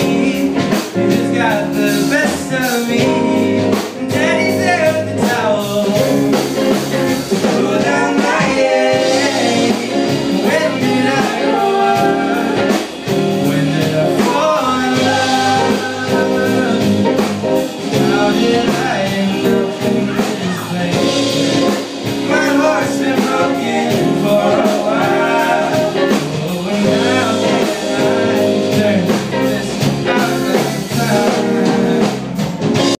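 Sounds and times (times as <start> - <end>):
bass guitar: 0.0 - 33.0
drums: 0.0 - 33.0
guitars: 0.0 - 33.0
person singing: 0.0 - 33.0.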